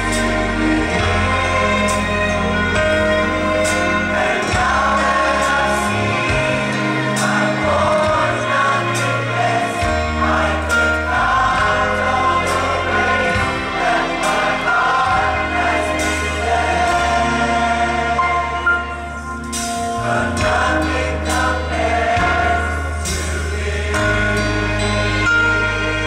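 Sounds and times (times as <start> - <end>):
bass line: 0.0 - 26.0
choir singing: 0.0 - 26.0.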